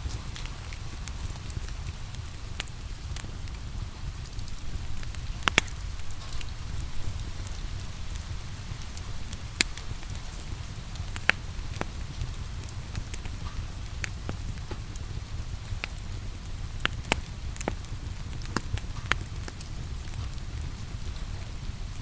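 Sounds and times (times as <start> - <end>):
fire popping: 0.0 - 22.0
rain hissing: 0.0 - 22.0
wood fire crackling: 0.0 - 22.0.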